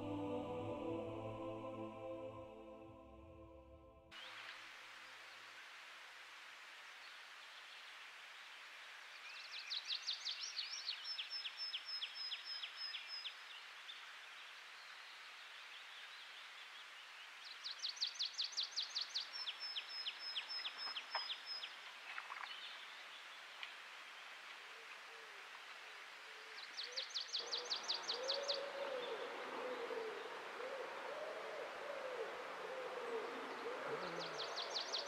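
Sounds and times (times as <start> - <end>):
songbird singing: 0.0 - 3.0, 7.0 - 35.0
faint steady hiss: 0.0 - 3.4, 4.1 - 35.0.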